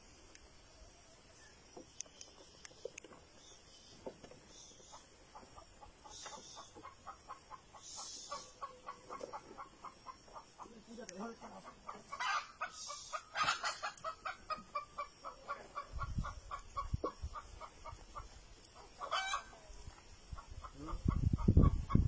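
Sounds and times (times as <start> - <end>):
chickens clucking: 0.2 - 22.0.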